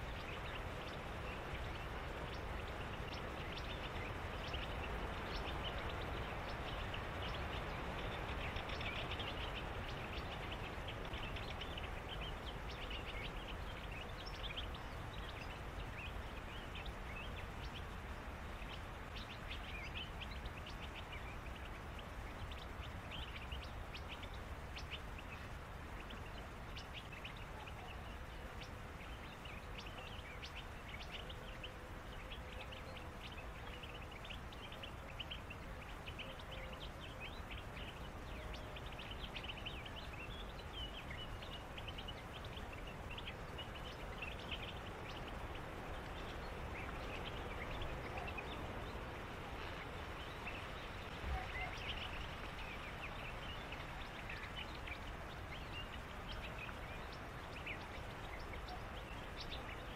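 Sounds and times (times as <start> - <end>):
birds chirping and calling: 0.0 - 59.9
steady background hiss: 0.0 - 59.9.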